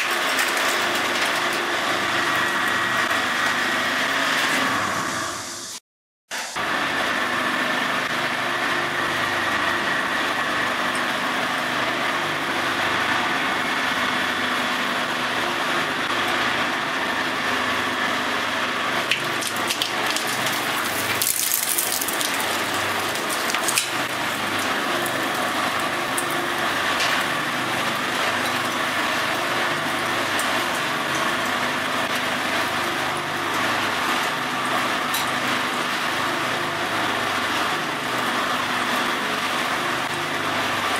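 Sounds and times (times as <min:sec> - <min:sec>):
industrial shredder running: 0:00.0 - 0:05.5, 0:06.4 - 0:40.9
loud grinding burst: 0:06.6 - 0:40.9.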